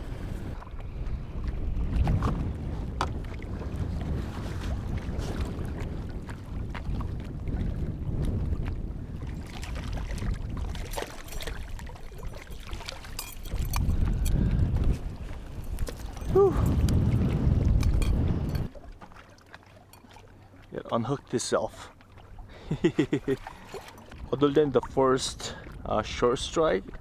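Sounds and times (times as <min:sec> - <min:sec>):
wind rumbling on microphone: 0:00.0 - 0:19.0, 0:22.3 - 0:27.0
water lapping against kayak hull: 0:00.0 - 0:27.0.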